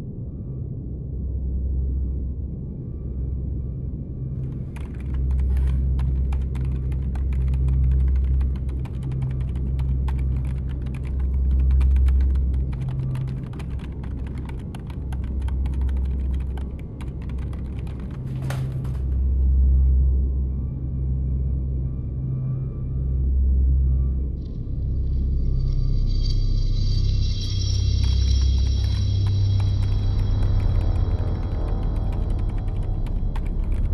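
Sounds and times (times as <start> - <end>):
low rumbling drone: 0.0 - 33.9.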